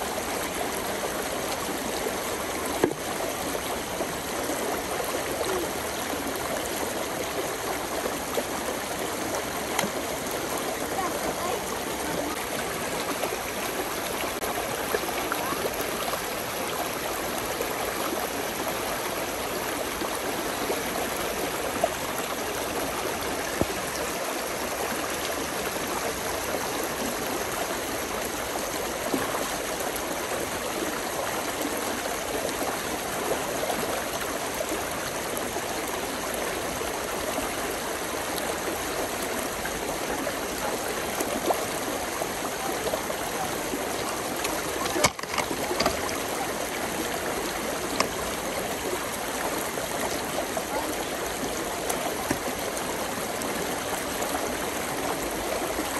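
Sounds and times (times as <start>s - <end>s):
brook babbling: 0.0s - 55.9s
water splashes: 0.0s - 55.9s.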